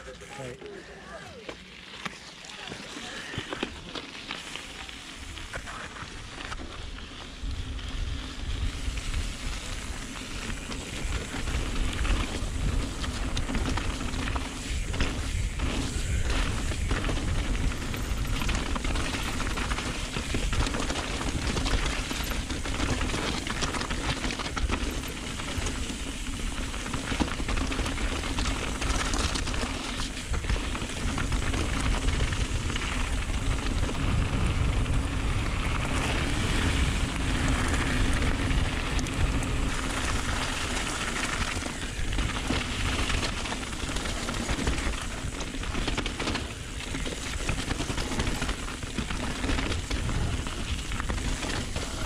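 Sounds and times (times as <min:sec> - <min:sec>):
stones and bike parts rattling: 0:00.0 - 0:52.0
tyre and wind rush: 0:02.8 - 0:52.0.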